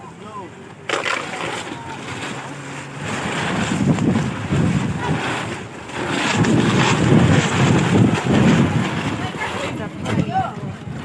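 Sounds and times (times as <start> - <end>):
storm wind buffeting microphone: 1.5 - 11.0.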